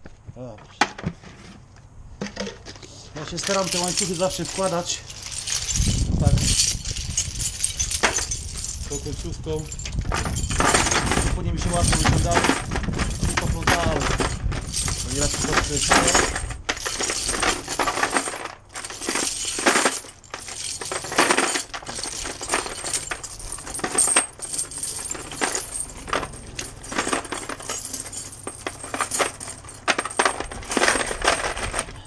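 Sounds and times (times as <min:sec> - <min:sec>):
chain clanking against bucket: 0:02.2 - 0:32.0
chains clinking and rattling: 0:03.2 - 0:32.0.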